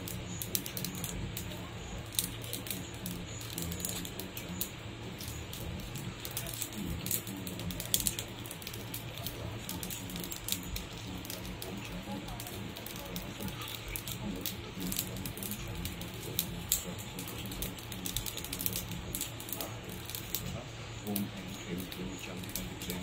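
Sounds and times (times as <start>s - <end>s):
fire crackling and popping: 0.0s - 23.0s
low steady hum: 0.0s - 23.0s.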